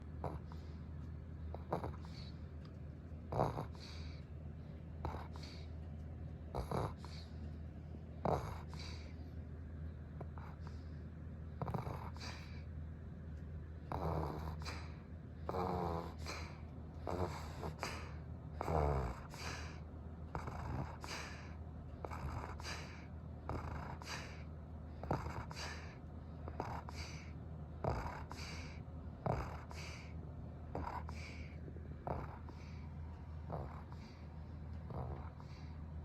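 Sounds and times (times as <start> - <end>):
dog snoring loudly: 0.0 - 0.8, 1.4 - 2.4, 3.3 - 4.2, 5.0 - 5.7, 6.4 - 7.4, 8.1 - 9.2, 10.2 - 12.7, 13.9 - 36.0.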